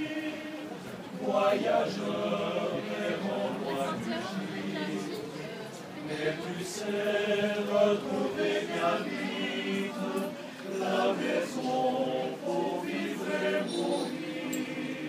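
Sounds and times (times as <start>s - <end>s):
men's choir singing: 0.0s - 15.0s.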